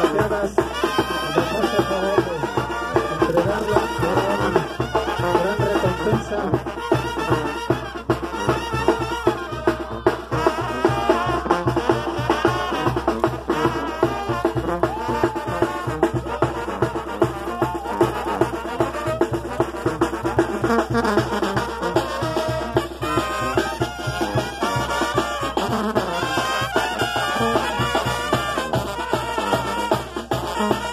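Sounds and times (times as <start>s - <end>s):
brass band playing: 0.0s - 30.9s.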